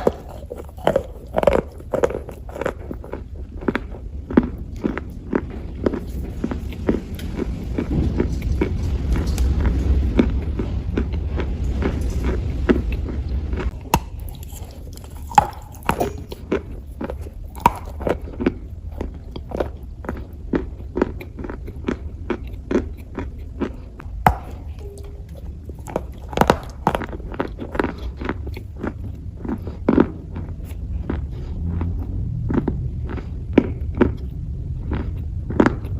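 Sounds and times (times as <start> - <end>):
dry clay crunching while chewed: 0.0 - 35.9
low hum: 0.0 - 35.9.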